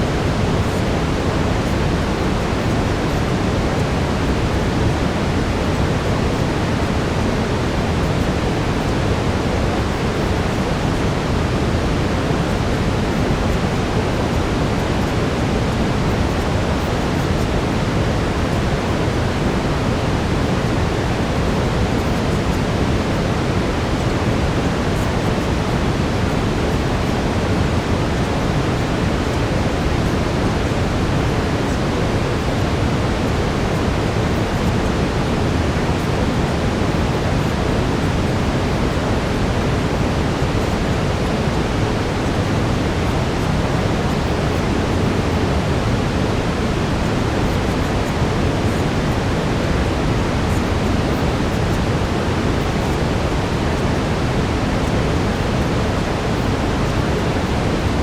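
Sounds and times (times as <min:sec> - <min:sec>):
brown noise rush: 0:00.0 - 0:58.0.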